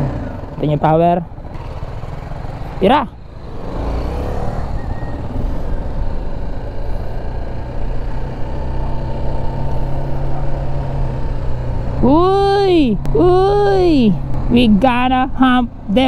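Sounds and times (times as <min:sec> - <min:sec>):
motorcycle engine pulling hard: 0:00.0 - 0:15.1.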